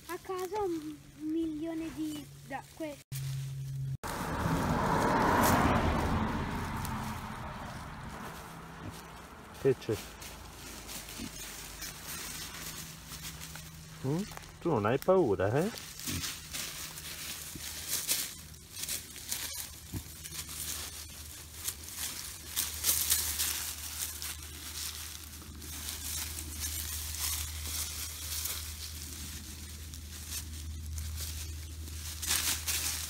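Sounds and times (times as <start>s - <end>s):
boars rustling in leaf litter: 0.0s - 33.0s.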